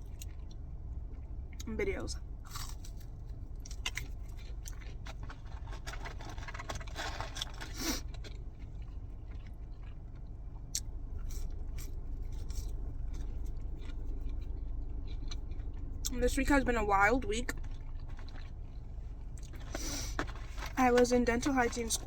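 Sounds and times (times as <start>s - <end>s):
person chewing crunchy food: 0.0s - 1.6s, 2.3s - 16.1s, 17.4s - 20.8s.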